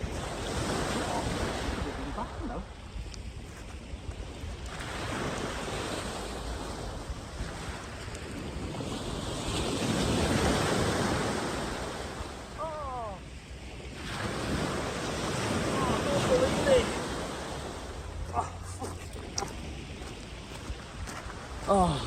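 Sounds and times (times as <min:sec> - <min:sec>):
small waves washing in: 0:00.0 - 0:22.0.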